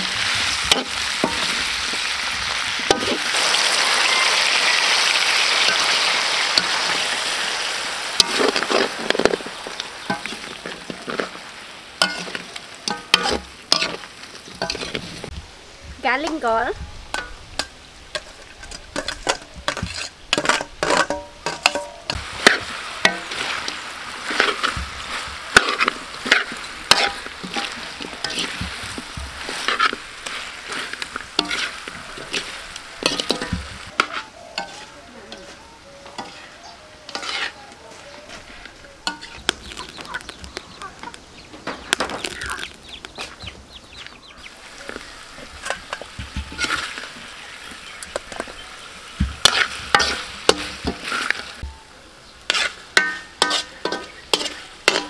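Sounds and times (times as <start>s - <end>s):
spatula clinking and scraping wok: 0.0s - 15.0s, 17.1s - 39.8s, 44.8s - 51.6s, 52.4s - 55.0s
steady sizzle: 0.0s - 55.0s.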